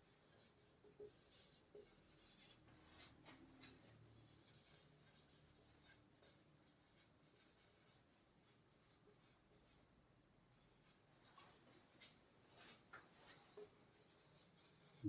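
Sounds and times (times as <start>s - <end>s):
marker scratching on a board: 0.0s - 9.9s, 10.5s - 15.0s.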